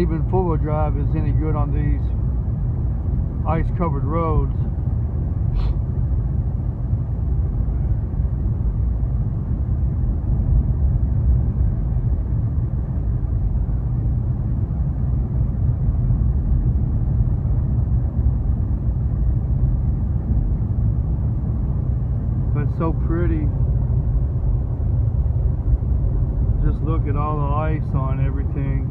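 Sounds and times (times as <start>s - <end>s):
car engine and tyres rumbling: 0.0s - 28.9s.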